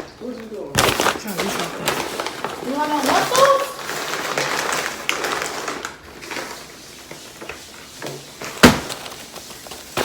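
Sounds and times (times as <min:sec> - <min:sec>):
faint room noise: 0:00.0 - 0:10.0.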